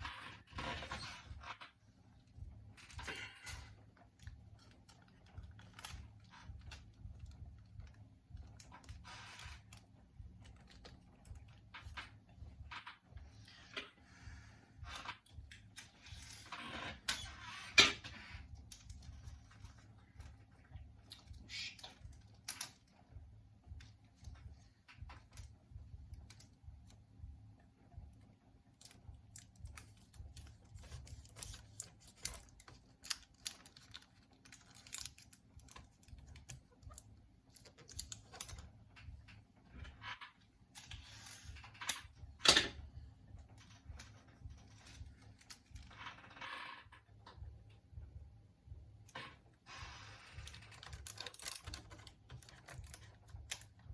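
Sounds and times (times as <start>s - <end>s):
tape clicking and rustling: 0.0s - 14.2s, 14.8s - 47.9s, 49.0s - 53.9s
steady low hum: 0.0s - 53.9s.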